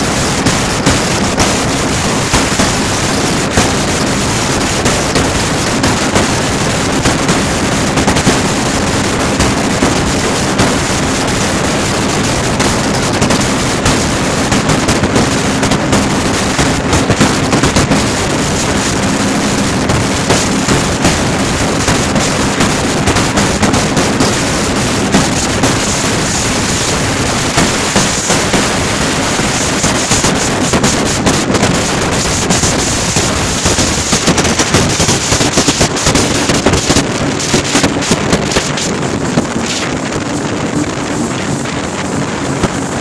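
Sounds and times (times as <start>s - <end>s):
hull slapping water: 0.0s - 43.0s
personal watercraft engine drone: 0.0s - 43.0s
rushing wind: 0.0s - 43.0s.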